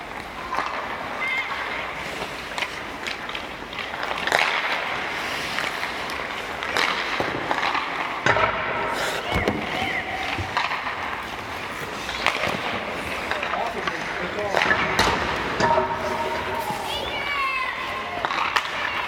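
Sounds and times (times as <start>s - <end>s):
hockey sticks hitting pucks: 0.0s - 19.0s
pucks striking pads and net: 0.0s - 19.0s
skate blades scraping ice: 0.0s - 19.0s.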